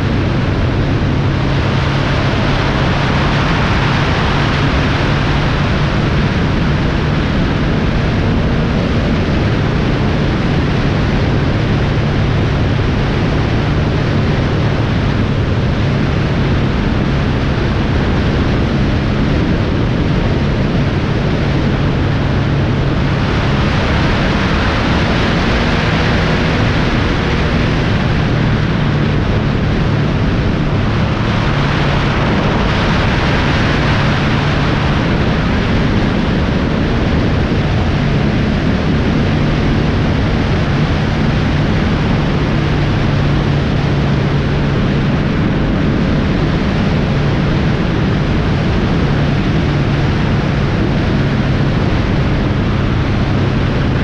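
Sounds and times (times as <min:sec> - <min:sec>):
low engine drone: 0:00.0 - 0:54.0
wind and road noise: 0:00.0 - 0:54.0.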